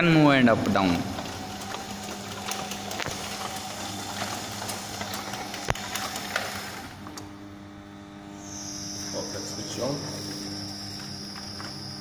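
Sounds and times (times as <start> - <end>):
engine mechanical whir and hum: 0.0 - 12.0.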